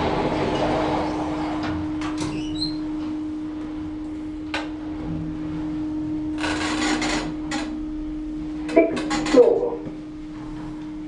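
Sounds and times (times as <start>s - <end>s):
faint rumble: 0.0s - 11.0s
lift car humming: 0.0s - 11.0s.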